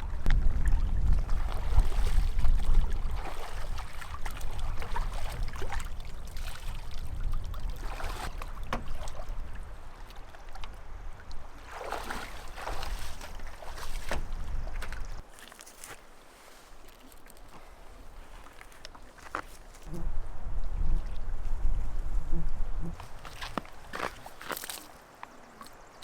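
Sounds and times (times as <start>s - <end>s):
lake water sloshing and splashing: 0.0s - 19.9s, 23.0s - 26.0s.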